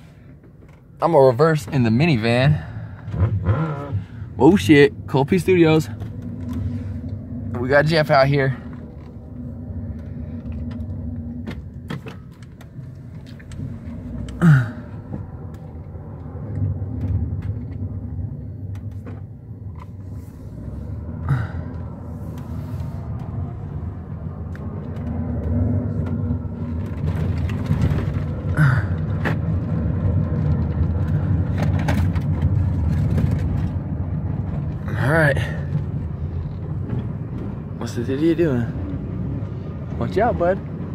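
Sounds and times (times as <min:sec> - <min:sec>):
engine and road rumble: 0:00.0 - 0:40.9.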